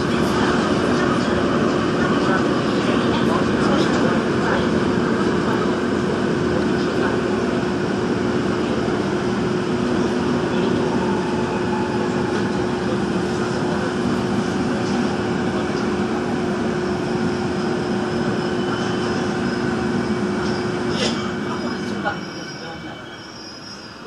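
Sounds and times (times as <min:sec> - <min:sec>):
subway train wheels rumbling: 0:00.0 - 0:24.0.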